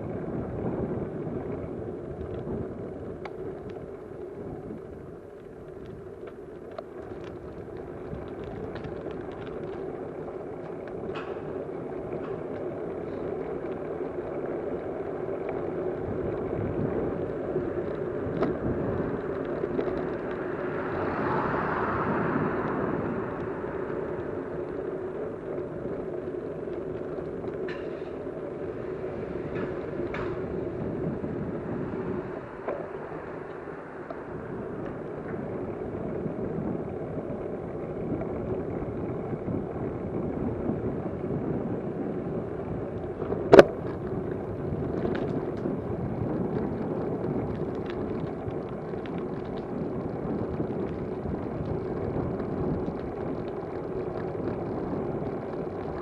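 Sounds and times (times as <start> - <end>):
vehicle running rumble: 0.0 - 56.0.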